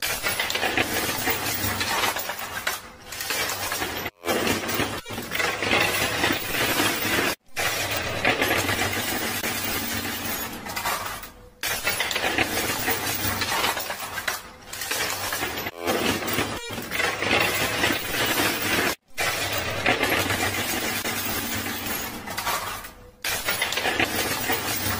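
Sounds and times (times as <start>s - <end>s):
chips and coins clattering: 0.0s - 24.9s.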